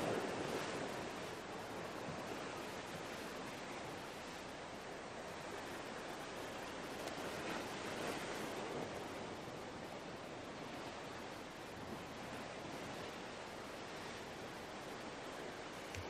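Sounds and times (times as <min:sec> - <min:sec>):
sea surf washing against rocks: 0:00.0 - 0:16.0.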